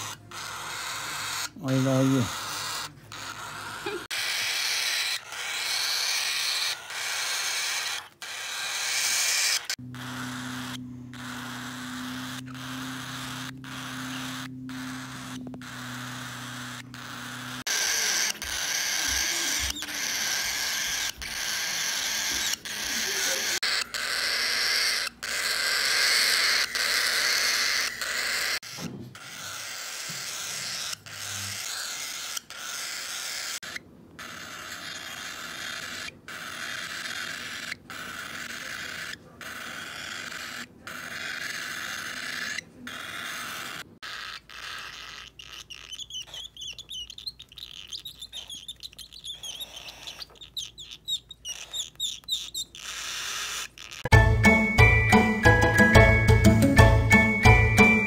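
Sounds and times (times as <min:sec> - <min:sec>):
baby cockatiel begging calls: 0:00.0 - 0:54.2.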